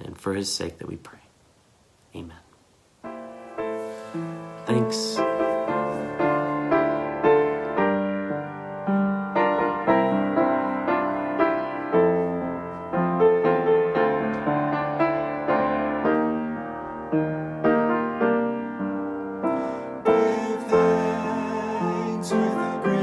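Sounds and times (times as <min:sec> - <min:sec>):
upright piano playing: 0:03.0 - 0:23.0.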